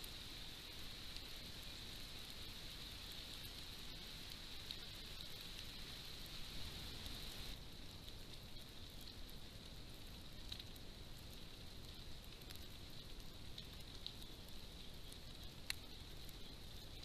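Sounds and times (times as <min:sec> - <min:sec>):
thin high hiss-like drone: 0:00.0 - 0:17.0.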